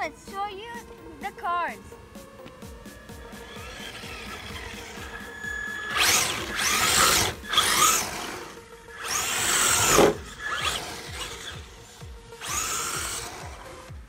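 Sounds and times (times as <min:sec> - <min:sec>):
rc car electric motor whining: 0:02.7 - 0:14.0.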